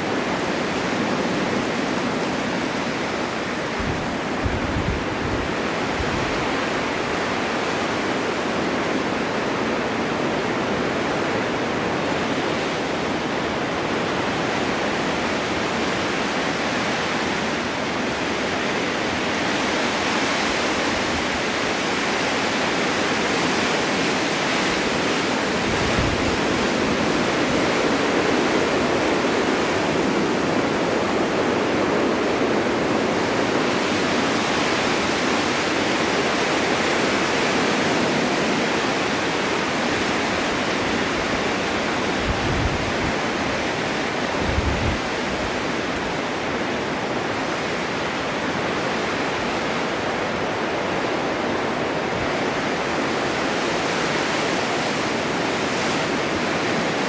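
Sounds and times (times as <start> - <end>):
low wind buffets: 0.0 - 57.0
snowstorm wind blowing: 0.0 - 57.0.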